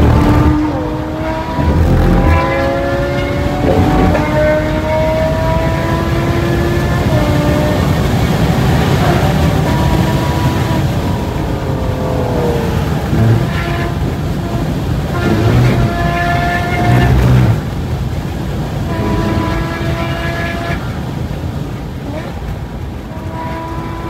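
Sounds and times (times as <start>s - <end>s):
tyre and wind noise: 0.0s - 24.0s.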